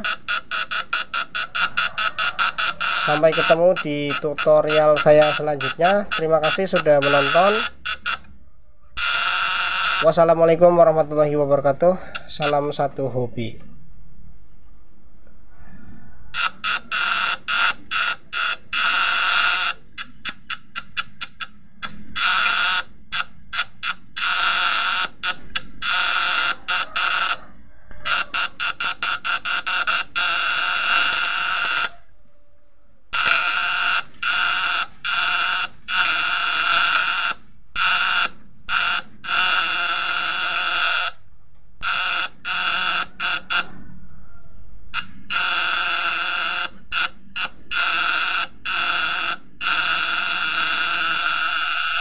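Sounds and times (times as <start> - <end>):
electric buzz: 0.0 - 8.3, 9.0 - 10.8, 16.4 - 27.4, 28.2 - 31.9, 33.1 - 41.2, 41.8 - 43.7, 45.0 - 52.0.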